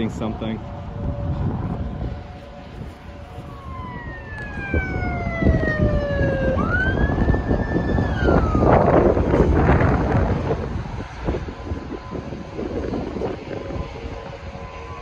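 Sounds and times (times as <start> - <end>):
siren wailing: 0.0 - 15.0
wind buffeting microphone: 0.0 - 15.0.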